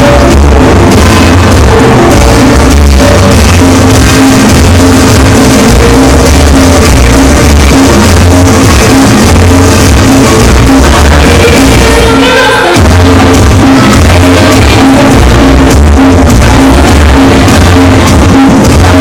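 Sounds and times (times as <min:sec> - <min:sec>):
loud dance music with heavy bass: 0:00.0 - 0:19.0.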